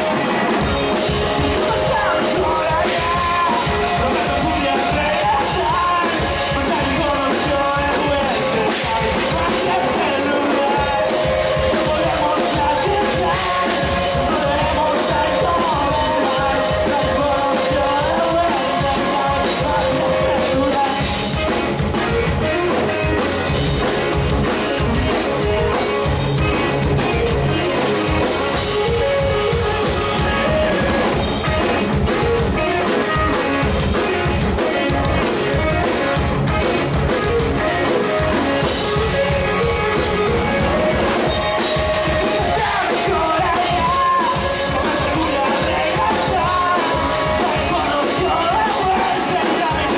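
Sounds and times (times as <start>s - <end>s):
drum kit: 0.0s - 49.9s
electric guitars: 0.0s - 49.9s
rock band playing live: 0.0s - 49.9s.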